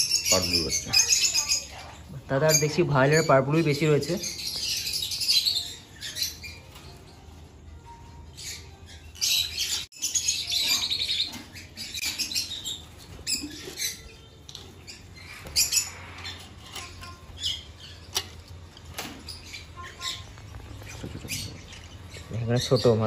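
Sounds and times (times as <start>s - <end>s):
parrots chirping and squawking: 0.0s - 23.0s.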